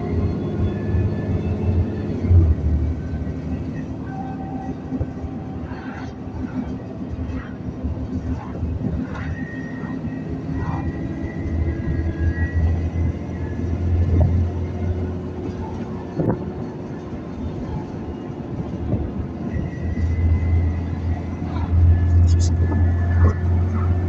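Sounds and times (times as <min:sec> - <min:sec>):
bus drivetrain drone: 0:00.0 - 0:24.0.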